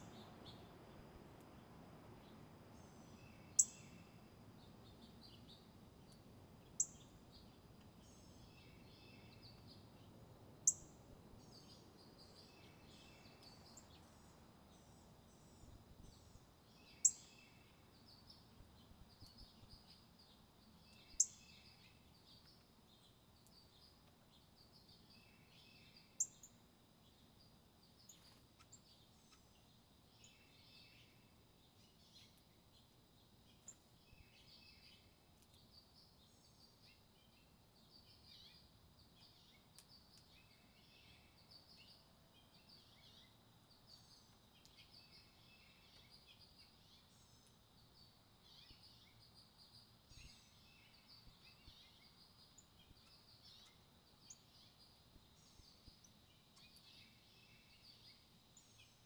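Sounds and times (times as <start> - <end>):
soft bird chirps and twitters: 0.0 - 59.0.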